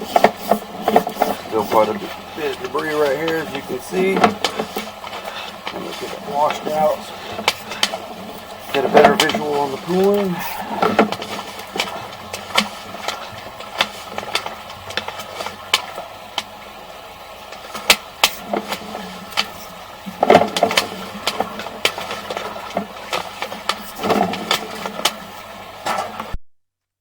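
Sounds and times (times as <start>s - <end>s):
steady low hum: 0.0s - 26.4s.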